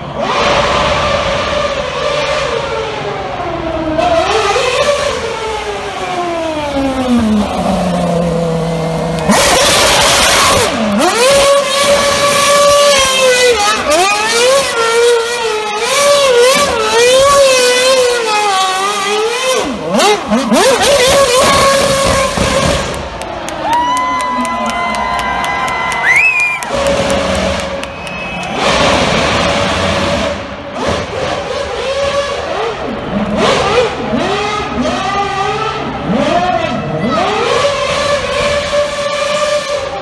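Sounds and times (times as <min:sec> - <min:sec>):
racing car engine revving: 0:00.0 - 0:23.7, 0:24.8 - 0:40.0.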